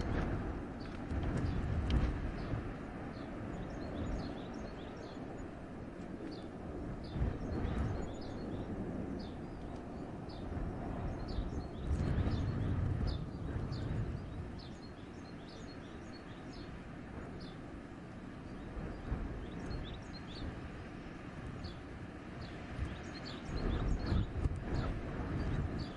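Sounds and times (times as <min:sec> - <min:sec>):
small birds chirping: 0:00.0 - 0:25.9
wind gusting through forest: 0:00.0 - 0:25.9.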